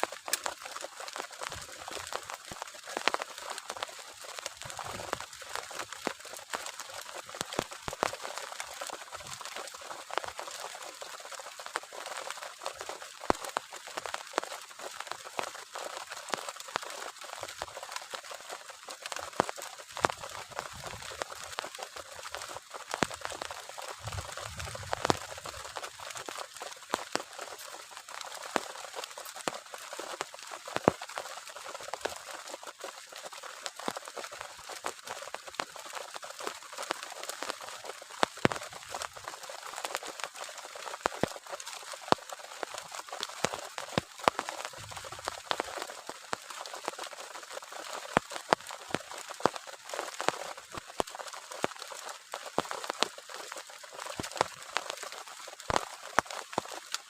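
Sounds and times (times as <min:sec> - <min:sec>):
heavy rain falling: 0:00.0 - 0:57.0
raindrops tapping: 0:00.0 - 0:57.0.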